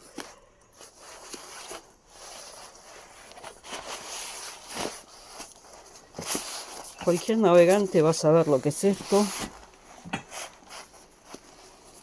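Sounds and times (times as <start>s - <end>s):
rustling and handling noises: 0.0s - 12.0s.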